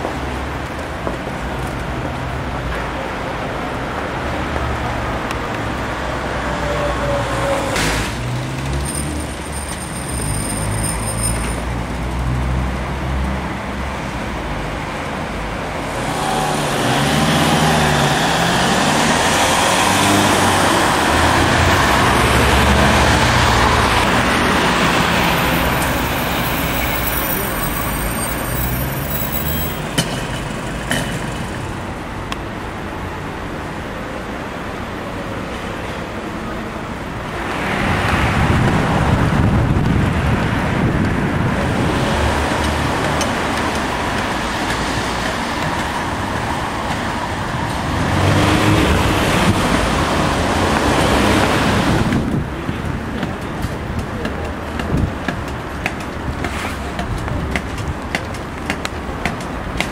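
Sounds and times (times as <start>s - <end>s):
city road traffic: 0.0s - 59.9s.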